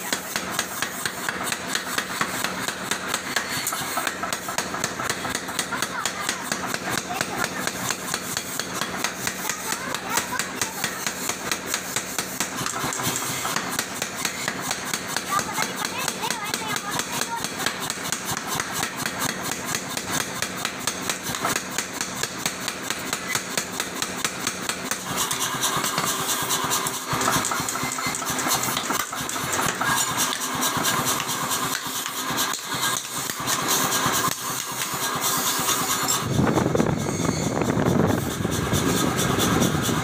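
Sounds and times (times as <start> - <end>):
machinery running: 0.0 - 40.0
power hammer striking hot steel: 0.0 - 40.0.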